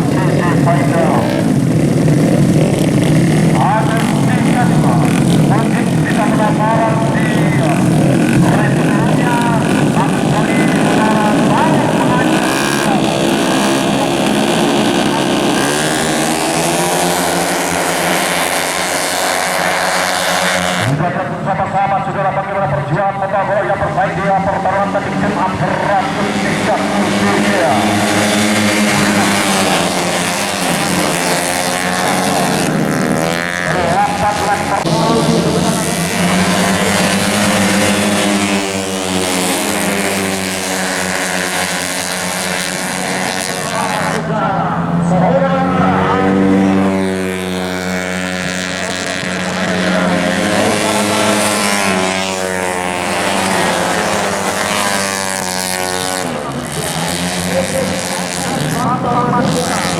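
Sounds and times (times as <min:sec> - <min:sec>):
scooter engines racing: 0:00.0 - 0:59.9.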